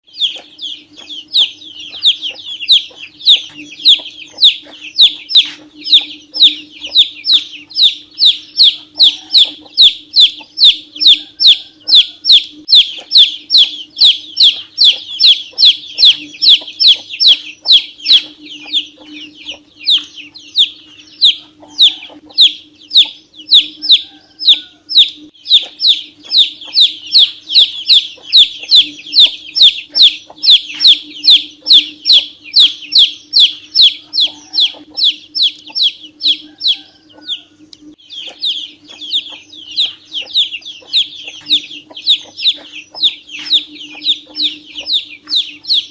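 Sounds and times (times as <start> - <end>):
ducklings peeping: 0.0 - 45.9
steady low hum: 0.1 - 45.9.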